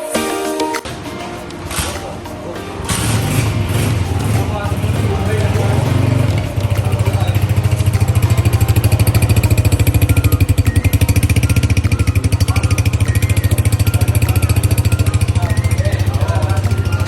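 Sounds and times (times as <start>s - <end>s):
motorcycle engine idling: 1.4s - 17.0s.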